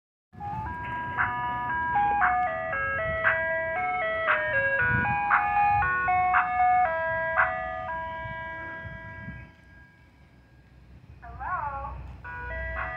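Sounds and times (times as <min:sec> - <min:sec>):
ice cream truck jingle: 0:00.4 - 0:12.9
low engine rumble: 0:00.4 - 0:12.9.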